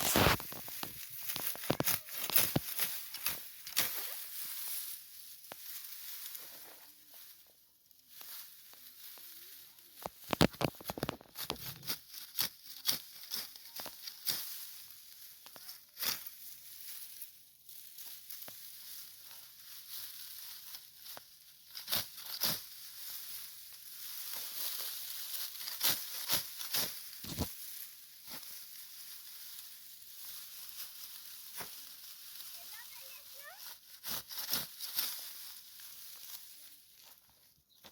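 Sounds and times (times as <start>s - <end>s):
dry wheat stalks rustling: 0.0s - 37.9s.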